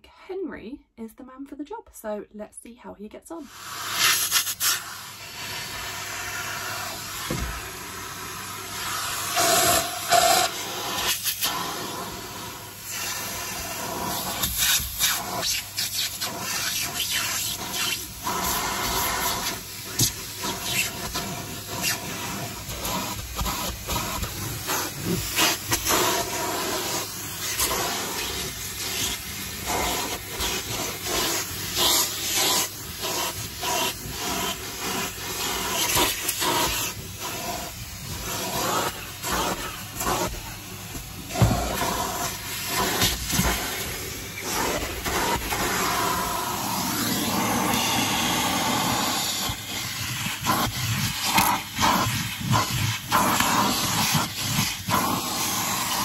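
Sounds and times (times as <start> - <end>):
vacuum cleaner sucking air: 3.4 - 56.0.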